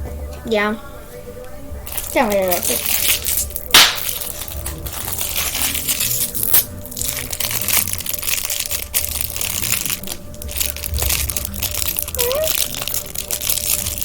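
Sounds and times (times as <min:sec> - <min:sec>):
plastic wrapping crinkling: 0:01.8 - 0:14.0.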